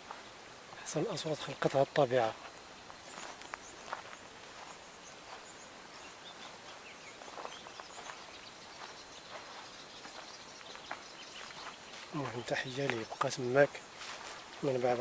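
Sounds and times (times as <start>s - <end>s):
steady outdoor hiss: 0.0s - 15.0s
faint bird chirps: 0.1s - 15.0s.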